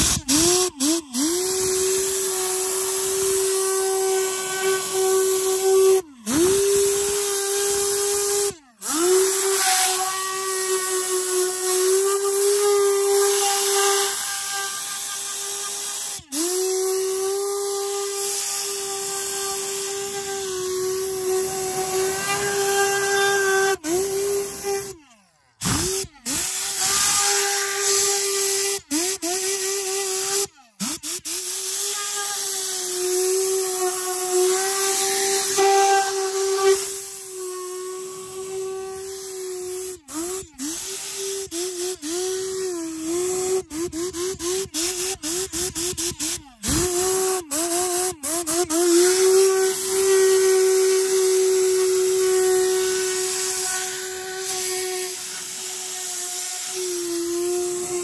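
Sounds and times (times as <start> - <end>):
compressed air gun hissing and whistling: 0.0 - 58.0.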